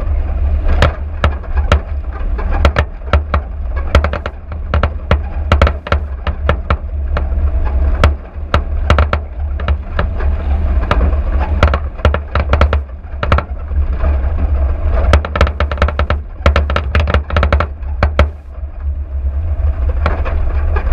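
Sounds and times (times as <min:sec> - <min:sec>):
vehicle knocks and rattles: 0:00.0 - 0:19.0, 0:19.8 - 0:20.9
car rumbling on dirt track: 0:00.0 - 0:20.9.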